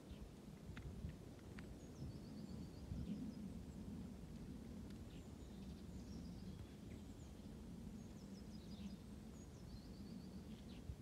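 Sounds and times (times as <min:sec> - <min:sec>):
small songbirds chirping: 0:00.0 - 0:11.0.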